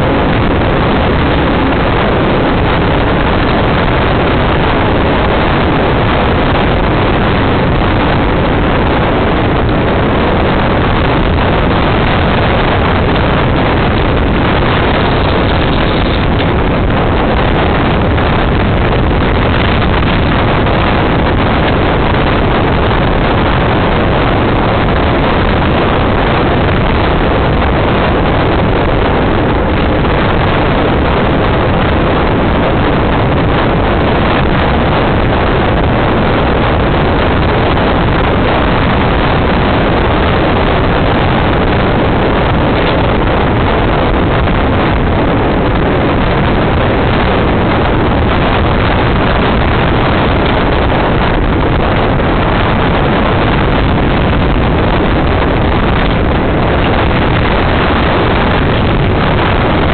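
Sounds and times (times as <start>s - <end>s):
tyres rumbling on road: 0.0s - 59.9s
wind buffeting microphone: 0.0s - 59.9s.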